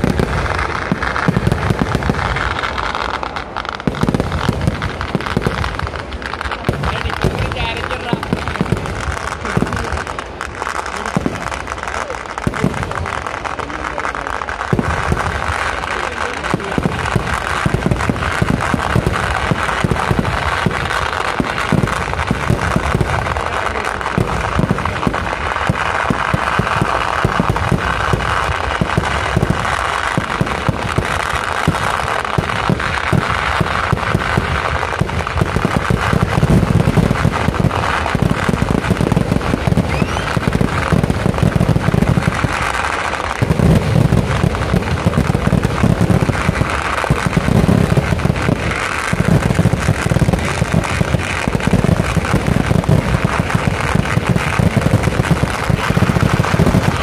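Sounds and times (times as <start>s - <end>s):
fireworks banging: 0.0s - 57.0s.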